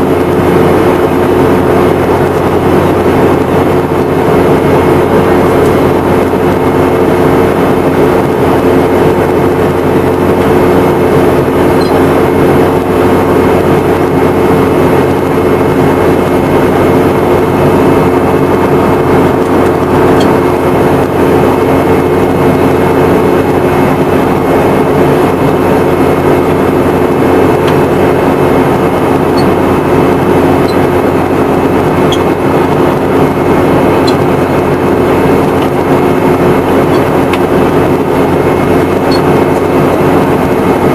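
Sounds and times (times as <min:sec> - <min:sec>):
airplane cabin noise in flight: 0:00.0 - 0:40.9.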